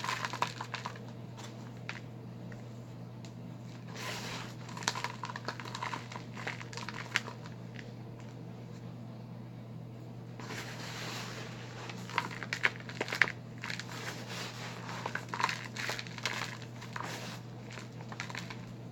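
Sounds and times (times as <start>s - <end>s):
cleaning powder crunching by hand: 0.0s - 2.6s, 3.6s - 8.4s, 10.4s - 18.9s
low hum: 0.0s - 18.9s.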